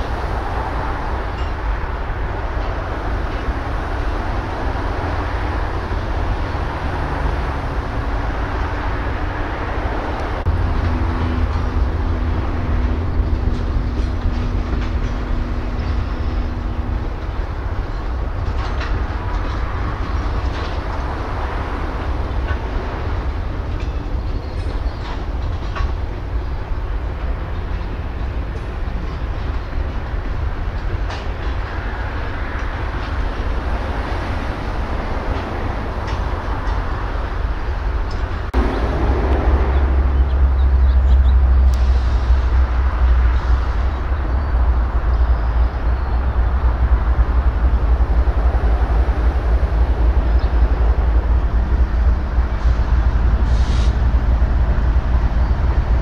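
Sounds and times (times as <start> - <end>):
freight cars rumbling: 0.0 - 56.0.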